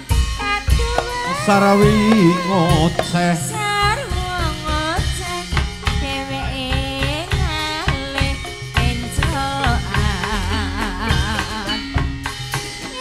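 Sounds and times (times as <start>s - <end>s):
drum strokes: 0.0s - 13.0s
person singing melody: 0.4s - 12.1s.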